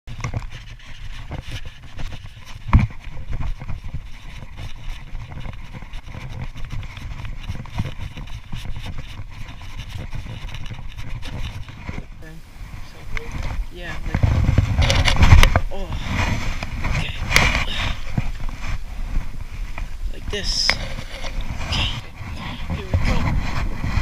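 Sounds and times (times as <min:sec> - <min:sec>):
kayak scraping over grass: 0:00.1 - 0:24.0.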